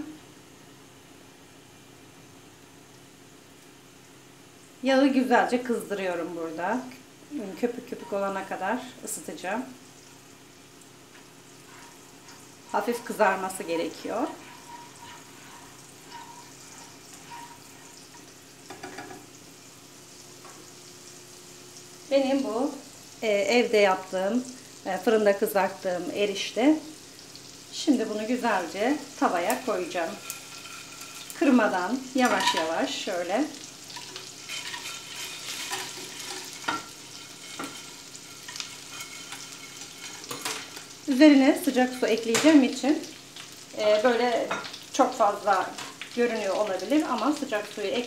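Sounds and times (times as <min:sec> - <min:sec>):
butter sizzling in frying pan: 0:00.0 - 0:48.0.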